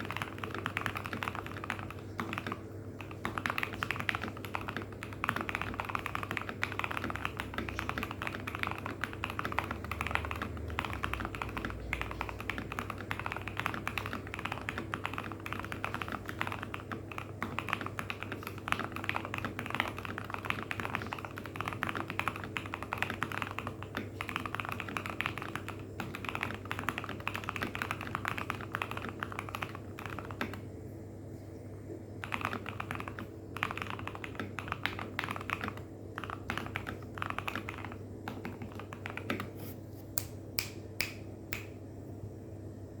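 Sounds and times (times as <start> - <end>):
mechanical keyboard typing: 0.0 - 30.7, 32.2 - 39.6
steady low hum: 0.0 - 43.0.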